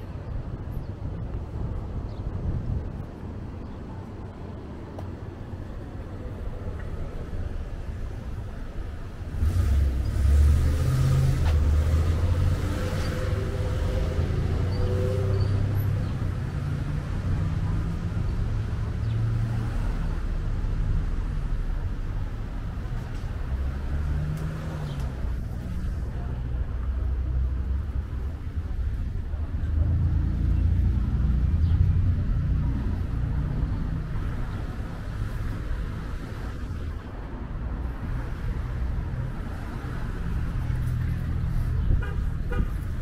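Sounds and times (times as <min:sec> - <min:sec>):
cars driving past: 0:04.2 - 0:43.0.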